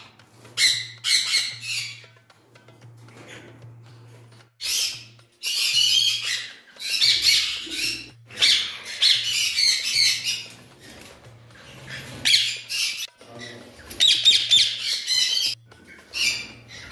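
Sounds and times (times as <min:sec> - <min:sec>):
parakeets squawking: 0:00.0 - 0:02.4, 0:03.1 - 0:16.9.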